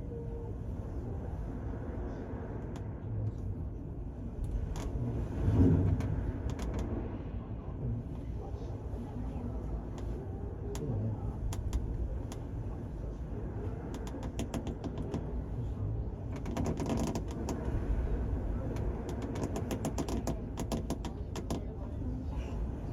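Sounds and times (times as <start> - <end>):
ship engine rumble: 0.0 - 22.9.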